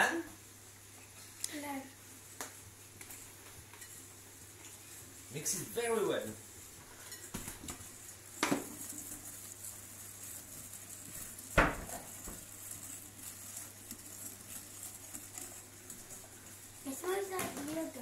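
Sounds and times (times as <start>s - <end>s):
whisk stirring in glass bowl: 3.0s - 18.0s.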